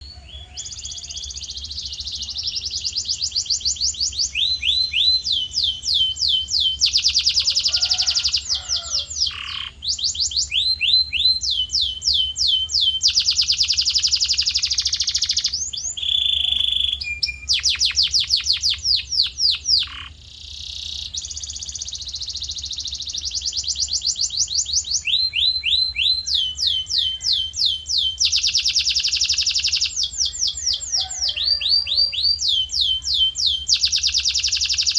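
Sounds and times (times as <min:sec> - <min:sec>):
canary singing rapid trills: 0:00.0 - 0:34.9.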